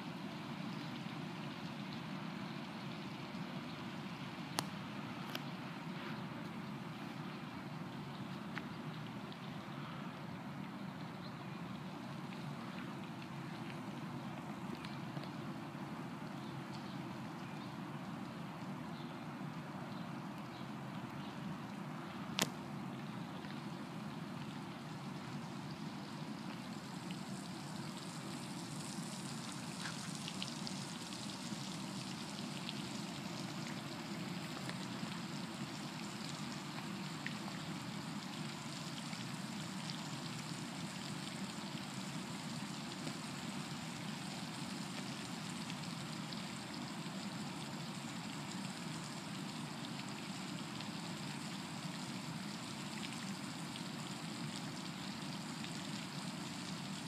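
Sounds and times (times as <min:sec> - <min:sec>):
fountain water rushing: 0:00.0 - 0:57.0.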